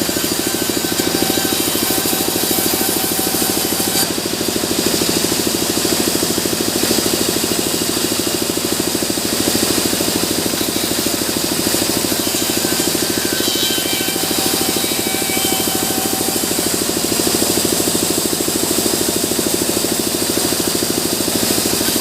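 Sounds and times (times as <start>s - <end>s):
sawmill machinery pulsing: 0.0s - 22.0s.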